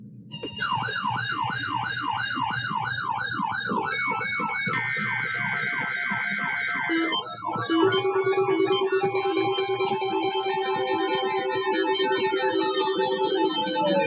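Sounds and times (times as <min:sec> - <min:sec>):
low beat: 0:00.0 - 0:12.2
electronic siren wailing: 0:00.3 - 0:14.0
steady high tone: 0:00.3 - 0:14.0.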